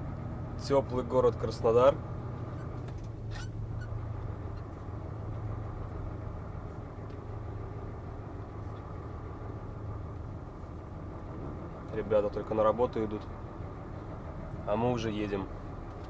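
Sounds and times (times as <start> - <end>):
diesel truck engine humming: 0.0 - 16.0.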